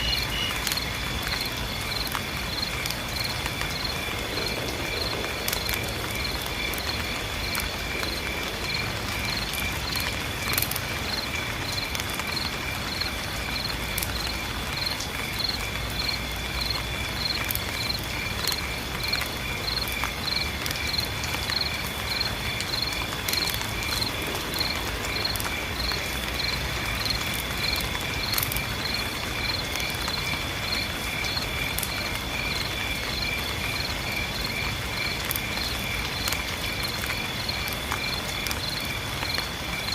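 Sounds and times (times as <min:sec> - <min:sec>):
crickets chirping: 0:00.0 - 0:39.9
rain patter: 0:00.0 - 0:39.9.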